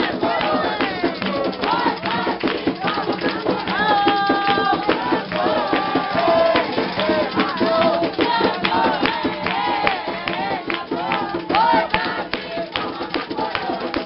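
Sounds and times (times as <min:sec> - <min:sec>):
fast dense drumming: 0:00.0 - 0:14.0
group singing a chant: 0:00.0 - 0:14.0.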